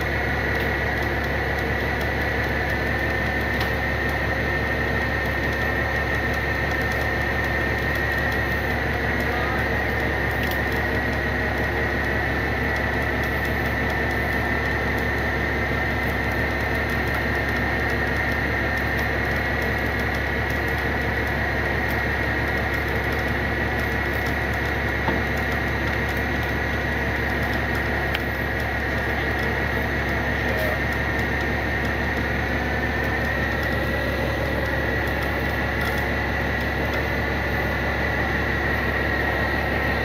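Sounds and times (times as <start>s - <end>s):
truck engine rumble: 0.0s - 40.0s
winch high whine: 0.0s - 40.0s.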